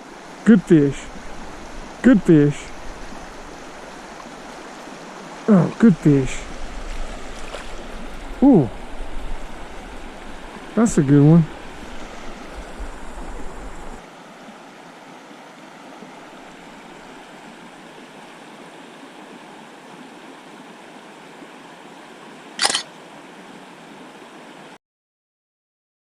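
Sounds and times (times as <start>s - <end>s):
creek water flowing: 0.0s - 24.8s.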